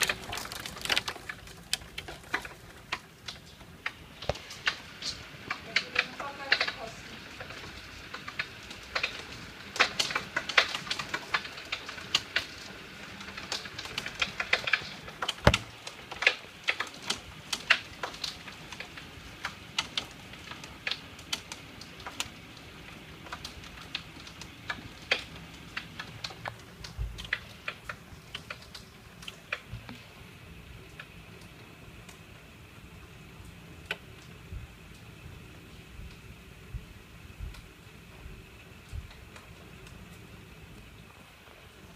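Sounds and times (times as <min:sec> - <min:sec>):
hailstones clicking on hard surfaces: 0:00.0 - 0:41.9
heavy rain hiss: 0:00.0 - 0:41.9.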